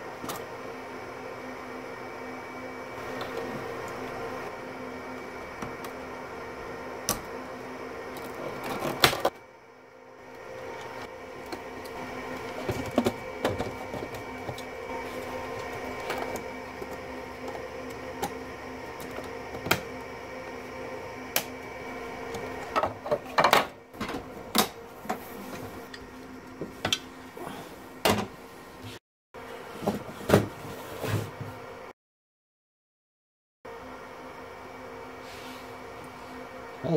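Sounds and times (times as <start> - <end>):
steady machine hum: 0.0 - 29.7, 33.7 - 36.9.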